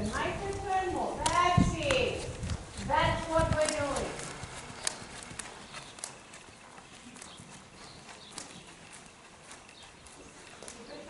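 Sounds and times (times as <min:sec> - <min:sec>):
horse hooves on sand: 0:00.0 - 0:11.0
sharp hoof clicks: 0:00.0 - 0:11.0.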